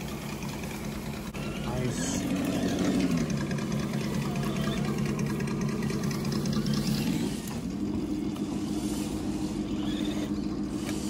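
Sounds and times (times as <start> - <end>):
toy truck motors humming: 0.0 - 11.0.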